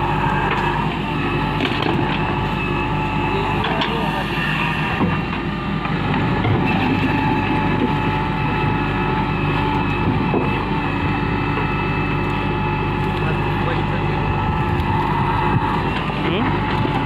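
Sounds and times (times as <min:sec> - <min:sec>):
diesel engine droning with whine: 0:00.0 - 0:17.0.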